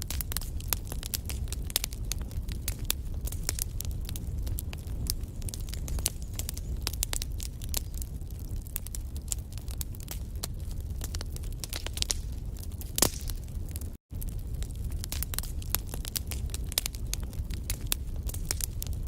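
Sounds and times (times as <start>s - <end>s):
low rumble of flames: 0.0s - 19.0s
sharp fire pops: 0.0s - 19.0s
wood fire crackling: 0.0s - 19.0s.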